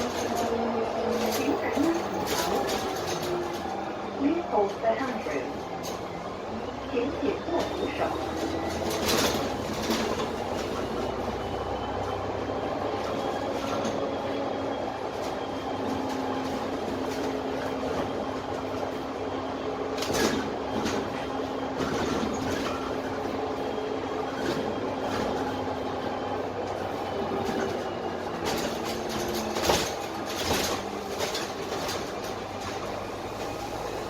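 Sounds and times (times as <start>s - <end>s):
bus body rattling: 0.0s - 34.0s
bus diesel engine whine: 0.0s - 34.0s
road noise: 0.0s - 34.0s.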